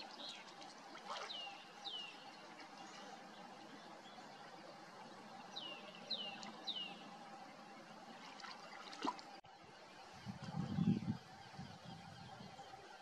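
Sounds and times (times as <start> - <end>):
faint river water ambience: 0.0 - 13.0.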